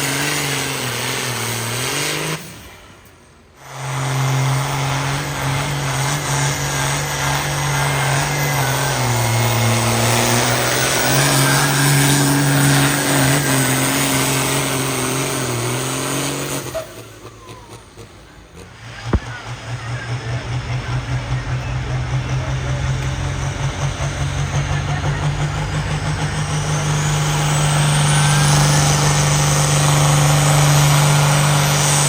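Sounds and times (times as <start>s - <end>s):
vehicle engine running at high revs: 0.0s - 32.0s.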